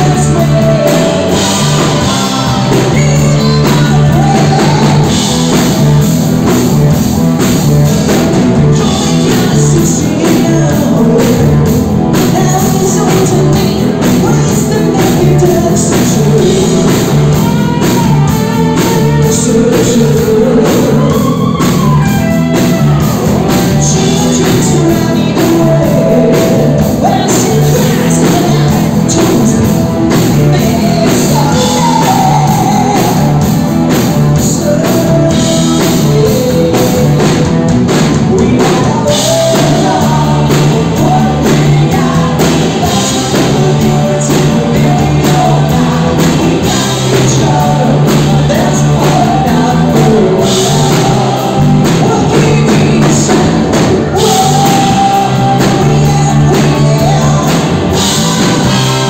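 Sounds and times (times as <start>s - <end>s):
person singing lead: 0.0s - 7.0s, 7.6s - 59.0s
live rock band playing: 0.0s - 59.0s.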